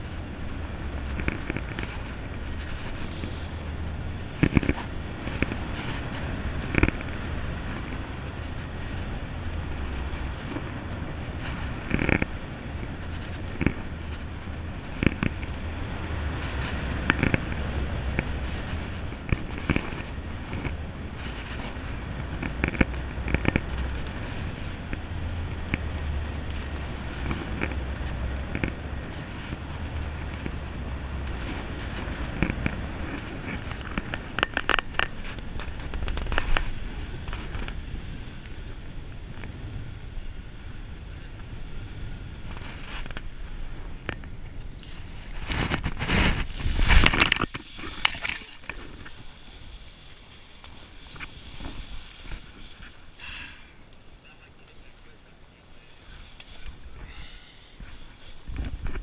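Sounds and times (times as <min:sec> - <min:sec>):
wind rushing over microphone: 0:00.0 - 0:54.2, 0:54.8 - 0:59.0
rustling of leaves and gear: 0:00.0 - 0:59.0.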